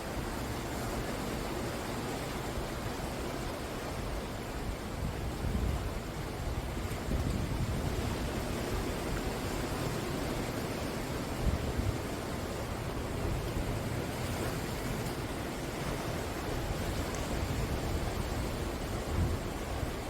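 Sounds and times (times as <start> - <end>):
waves breaking on shore: 0.0 - 20.0.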